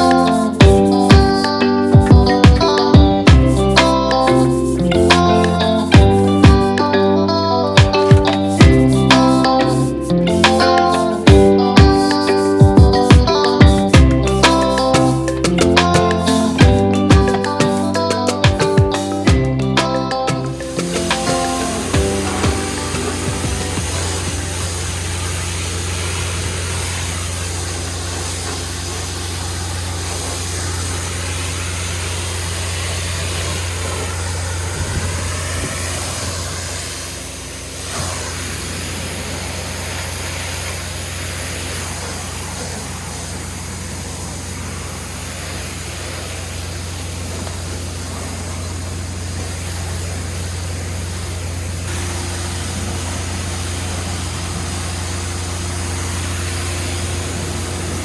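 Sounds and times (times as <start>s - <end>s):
pressure washer engine running: 0.0s - 58.0s
water spray hissing: 0.0s - 58.0s.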